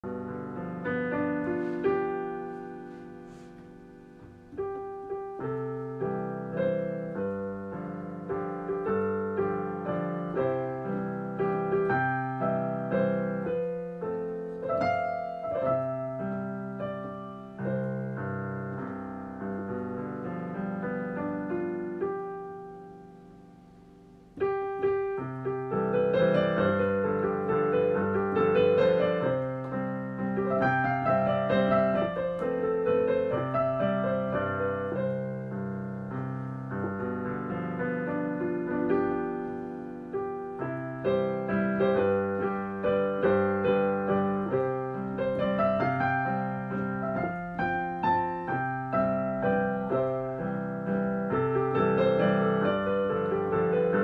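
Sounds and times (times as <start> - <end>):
solo piano music: 0.0 - 54.0.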